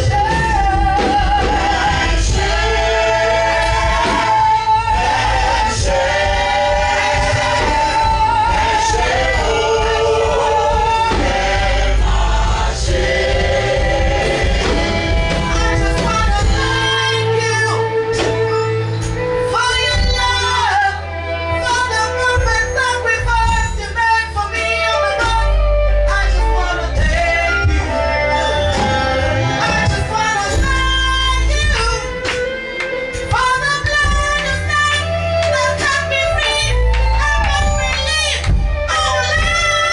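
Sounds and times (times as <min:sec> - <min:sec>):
voices singing over a band: 0:00.0 - 0:39.9.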